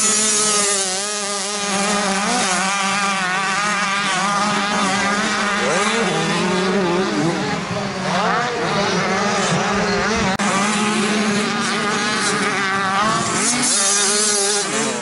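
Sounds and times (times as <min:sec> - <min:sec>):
engine revving up: 0:00.0 - 0:15.0
low engine drone: 0:00.0 - 0:15.0
motocross bike engines buzzing: 0:00.0 - 0:15.0.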